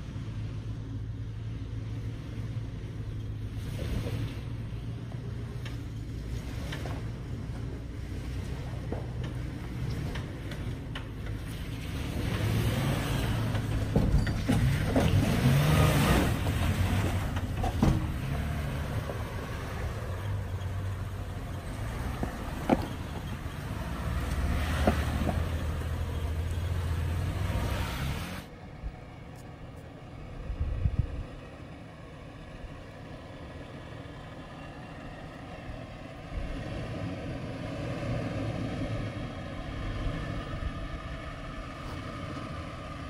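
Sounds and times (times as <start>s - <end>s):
engine running at low revs: 0.0s - 43.0s.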